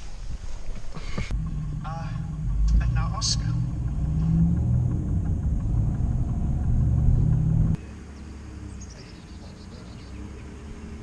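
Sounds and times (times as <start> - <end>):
background noise: 0.0 - 11.0
car engine rumbling: 0.9 - 11.0.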